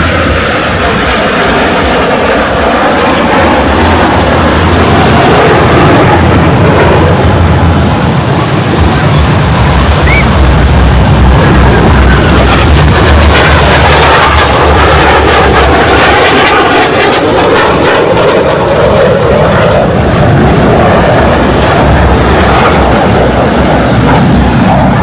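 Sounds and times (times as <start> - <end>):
airplane engine roar passing: 0.0 - 25.0.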